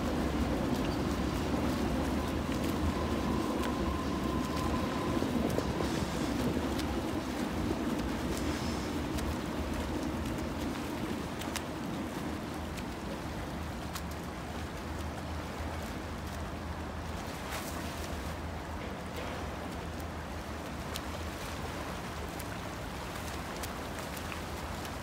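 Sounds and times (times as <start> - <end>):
water splashing from swimming: 0.0 - 25.0.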